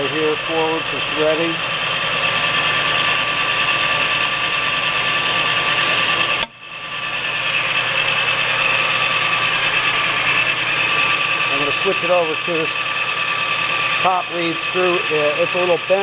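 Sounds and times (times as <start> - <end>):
metal lathe hum with gear whine: 0.0 - 16.0.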